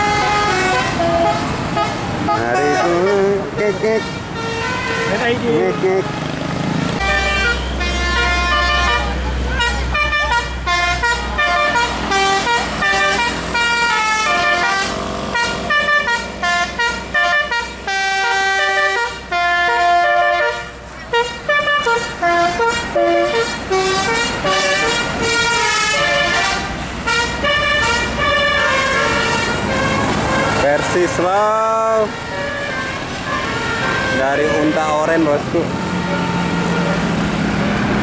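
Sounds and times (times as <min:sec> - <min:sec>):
musical air horn melody: 0:00.0 - 0:06.0, 0:07.0 - 0:37.0
bus engine rumble: 0:00.0 - 0:38.0.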